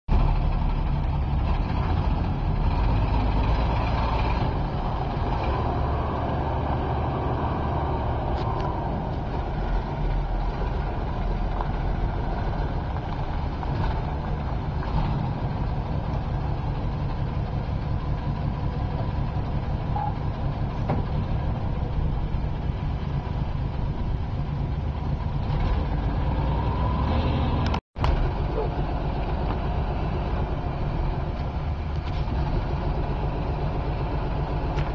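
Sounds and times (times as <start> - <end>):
truck engine rumbling: 0.1 - 34.9.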